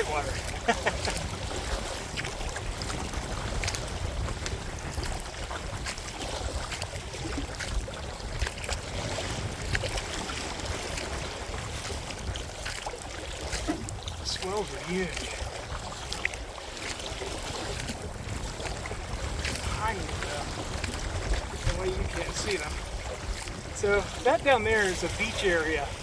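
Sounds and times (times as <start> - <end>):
sharp slaps of water: 0.0 - 14.5, 15.1 - 23.6
water splashing against kayak: 0.0 - 26.0
wind rumbling on microphone: 0.0 - 26.0.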